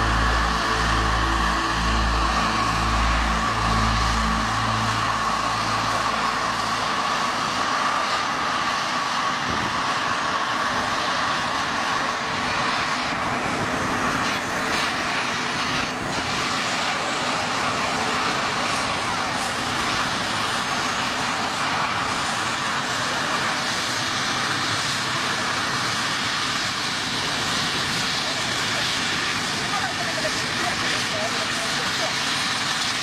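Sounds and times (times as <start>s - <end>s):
helicopter engine and rotor: 0.0s - 33.0s.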